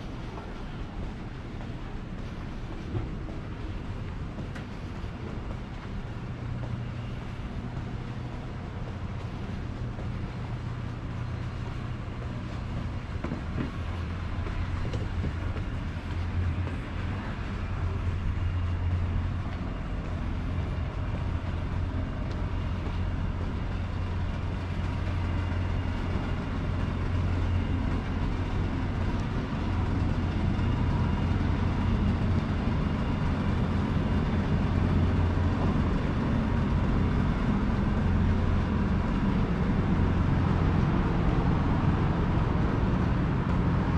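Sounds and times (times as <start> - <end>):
low city rumble: 0.0 - 43.9.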